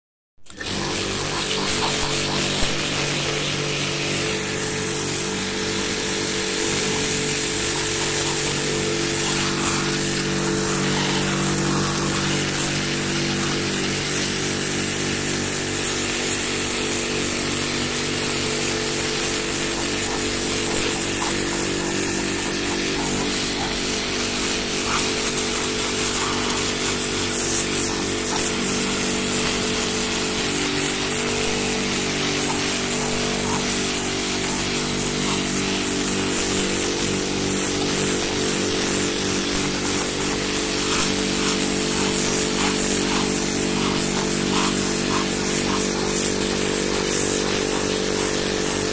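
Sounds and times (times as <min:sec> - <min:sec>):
pressure washer pump hum: 0:00.4 - 0:48.9
water jet spraying on tiles: 0:00.5 - 0:48.9.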